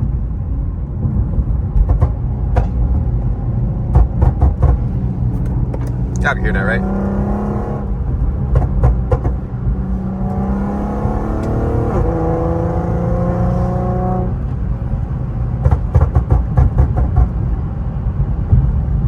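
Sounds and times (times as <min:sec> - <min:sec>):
car engine accelerating: 0:00.0 - 0:19.0
exhaust crackles and pops: 0:00.0 - 0:19.0.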